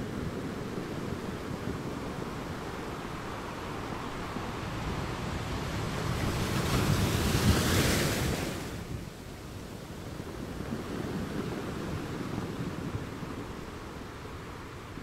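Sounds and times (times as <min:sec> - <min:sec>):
sea waves washing ashore: 0:00.0 - 0:15.0
wind rumbling on microphone: 0:00.0 - 0:15.0.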